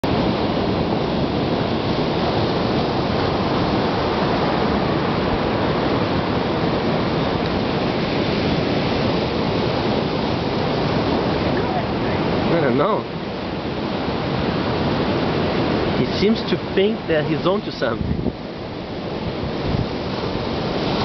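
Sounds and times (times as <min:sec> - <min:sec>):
ocean surf: 0:00.0 - 0:21.0
wind on microphone: 0:00.0 - 0:21.0.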